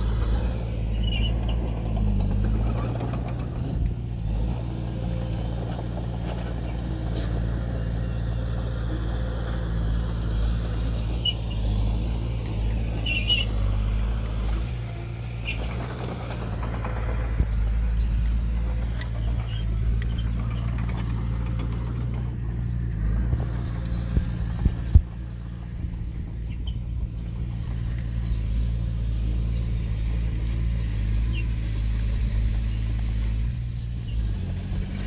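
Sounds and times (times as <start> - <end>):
diesel engine running: 0.0 - 35.0
brief squeaks and clicks: 0.1 - 9.3, 10.6 - 30.6, 31.2 - 32.0.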